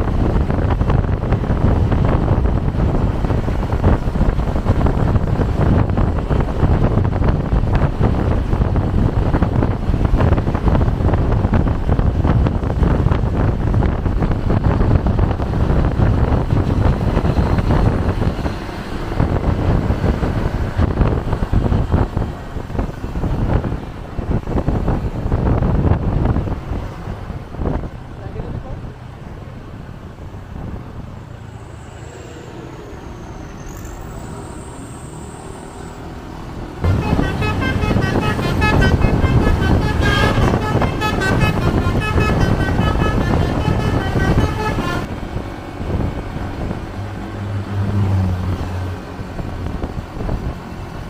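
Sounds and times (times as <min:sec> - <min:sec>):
wind buffeting microphone: 0:00.0 - 0:31.4, 0:36.0 - 0:51.0
vehicle moving on road: 0:00.0 - 0:51.0.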